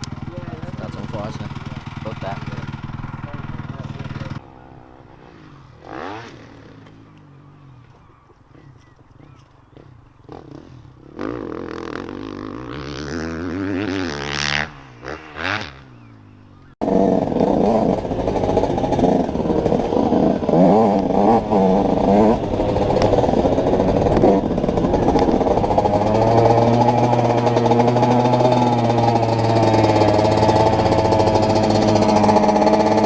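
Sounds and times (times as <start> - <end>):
dirt bike engine revving: 0.0 - 9.0, 9.7 - 33.0
motorbike riding engine: 0.0 - 33.0.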